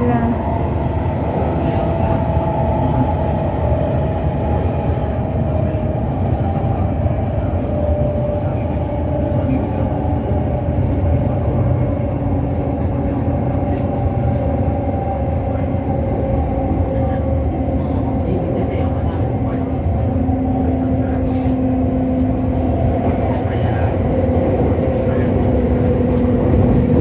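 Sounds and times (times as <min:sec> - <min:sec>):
train rumbling at speed: 0:00.0 - 0:27.0.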